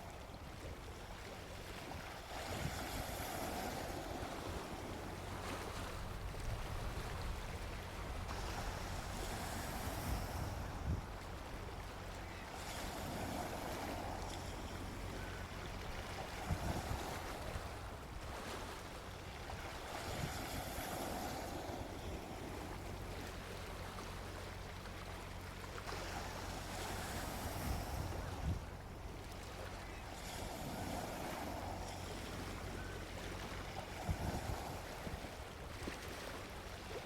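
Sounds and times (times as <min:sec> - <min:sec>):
sea waves washing onto beach: 0:00.0 - 0:37.0.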